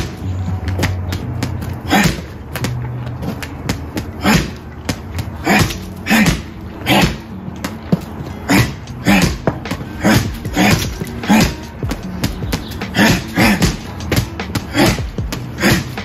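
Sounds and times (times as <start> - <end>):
punches thudding on punching bag: 0.0 - 16.0.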